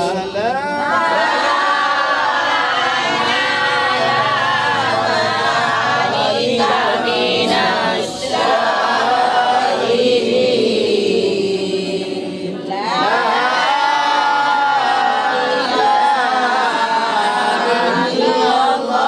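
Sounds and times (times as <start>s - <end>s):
voices chanting together: 0.0s - 19.0s.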